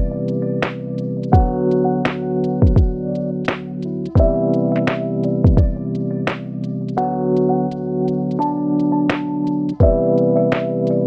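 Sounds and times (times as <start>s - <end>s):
synthesizer chords: 0.0s - 11.0s.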